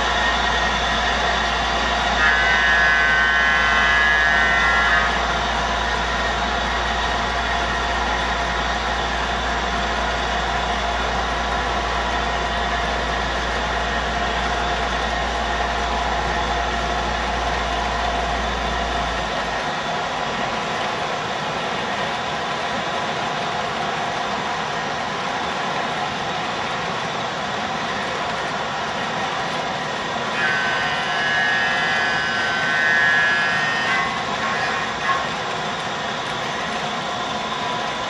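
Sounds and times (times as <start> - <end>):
model train rolling on track: 0.0 - 38.0.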